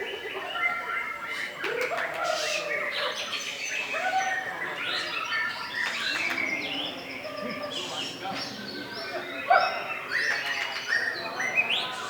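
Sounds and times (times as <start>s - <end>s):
songbirds singing in chorus: 0.0s - 12.0s.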